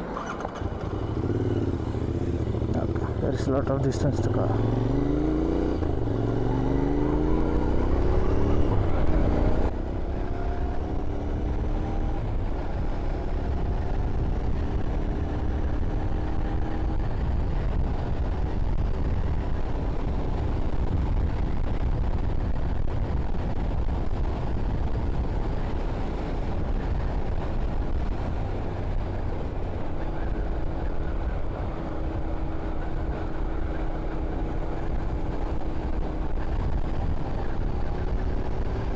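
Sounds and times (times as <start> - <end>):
motorcycle engine accelerating: 0.0 - 38.9
wind rumble on microphone: 1.6 - 38.9.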